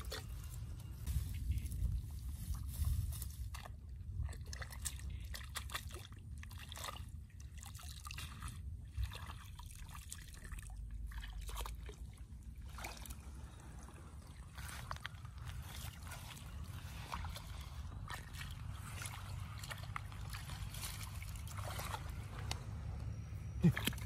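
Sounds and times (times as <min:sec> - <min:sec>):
wading feet splashing: 0:00.0 - 0:24.0
water splashing and sloshing: 0:00.0 - 0:24.0.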